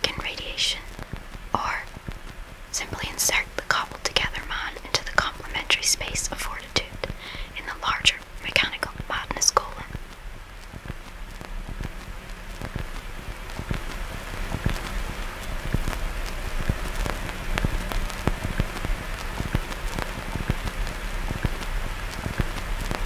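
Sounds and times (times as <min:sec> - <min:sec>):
low electrical hum: 0:00.0 - 0:23.0
static hiss with crackles: 0:00.0 - 0:23.0.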